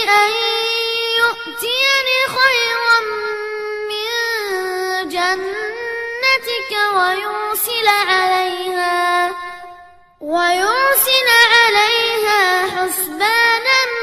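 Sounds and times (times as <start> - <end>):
boy reciting in melodic chant: 0.0 - 14.0.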